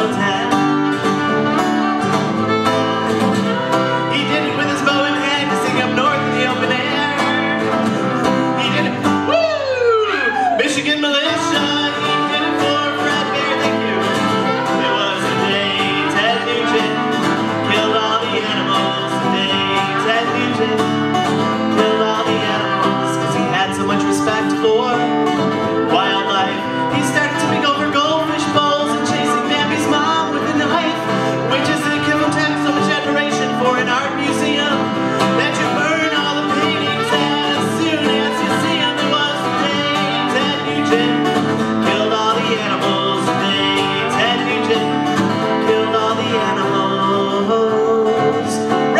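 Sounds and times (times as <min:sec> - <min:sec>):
fiddle playing melody: 0:00.0 - 0:47.1
strummed acoustic guitar: 0:00.0 - 0:48.9.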